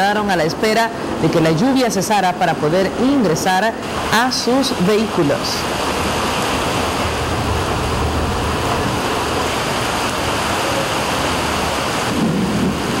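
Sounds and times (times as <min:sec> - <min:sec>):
floodwater rushing down a street: 0:00.0 - 0:13.0
heavy rain: 0:00.0 - 0:13.0.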